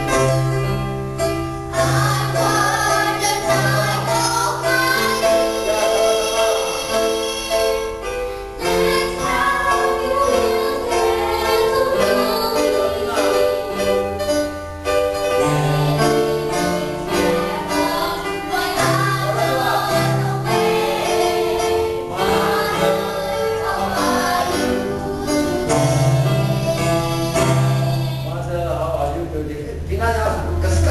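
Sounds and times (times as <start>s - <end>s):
instrumental accompaniment: 0.0s - 30.9s
girls singing together: 1.7s - 8.0s, 8.6s - 14.3s, 15.3s - 28.3s.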